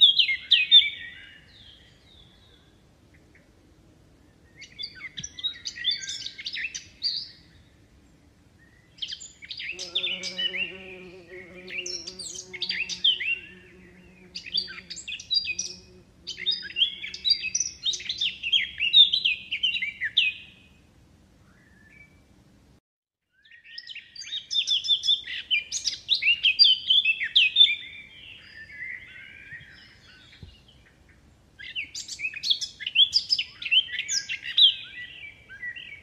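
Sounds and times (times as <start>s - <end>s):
songbird chirping: 0.0s - 3.6s, 4.2s - 22.4s, 23.3s - 36.0s.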